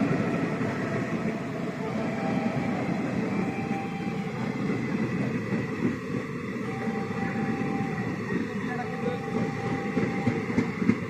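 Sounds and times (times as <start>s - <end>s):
train coaches rumbling on track: 0.0s - 11.0s.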